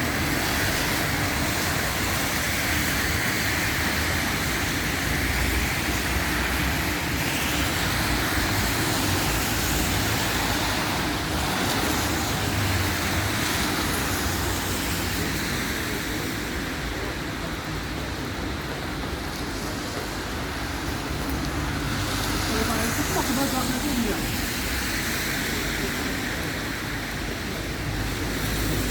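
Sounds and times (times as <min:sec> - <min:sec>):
traffic hiss on wet road: 0:00.0 - 0:28.9.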